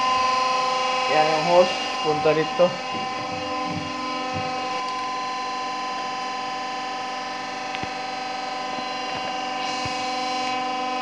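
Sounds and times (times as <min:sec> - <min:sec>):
oil pump humming: 0:00.0 - 0:11.0.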